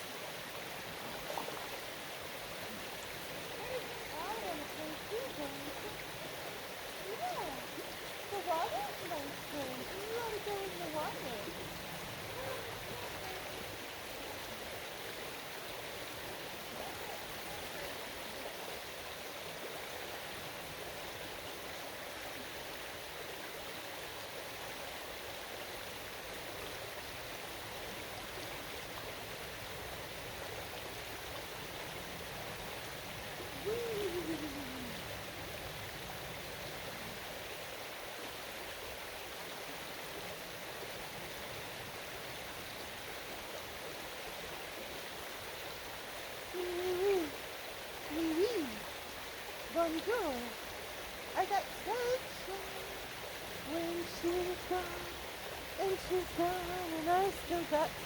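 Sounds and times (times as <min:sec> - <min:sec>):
water running over rocks: 0:00.0 - 0:58.0.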